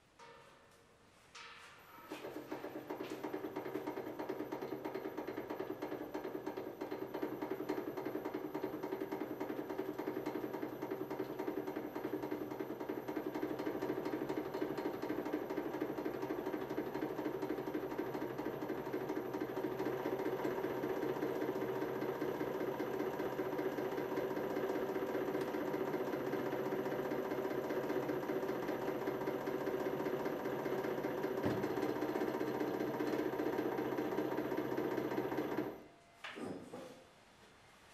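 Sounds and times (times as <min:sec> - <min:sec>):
hydraulic press motor humming: 0:02.8 - 0:36.7.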